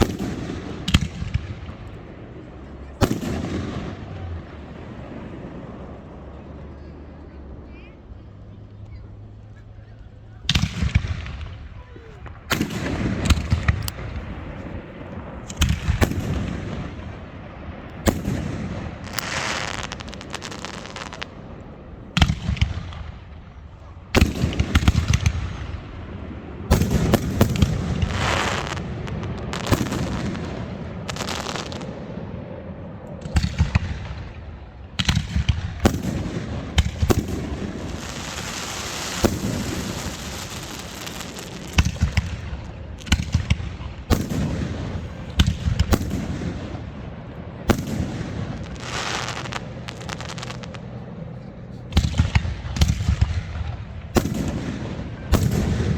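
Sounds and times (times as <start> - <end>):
fireworks bangs and booms: 0.0 - 55.9
fireworks crackling and hissing: 0.0 - 55.9.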